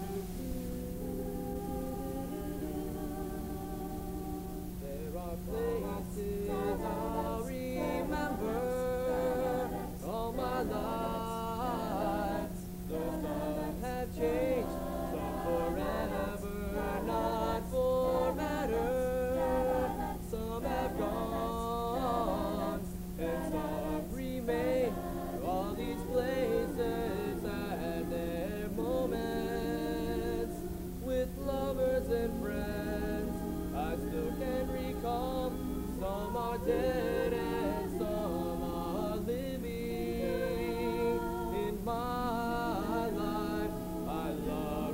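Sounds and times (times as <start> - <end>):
steady low hum: 0.0 - 44.9
voices singing a cappella: 0.0 - 44.9.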